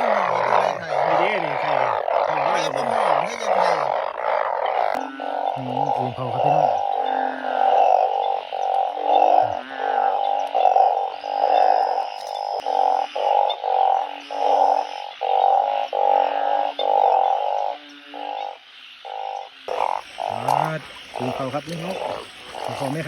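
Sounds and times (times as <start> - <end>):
chorus of frogs croaking: 0.0 - 23.0.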